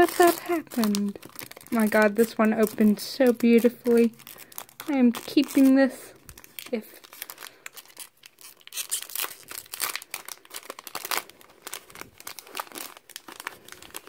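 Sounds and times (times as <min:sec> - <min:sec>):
foil wrapper crinkling: 0:00.0 - 0:14.0.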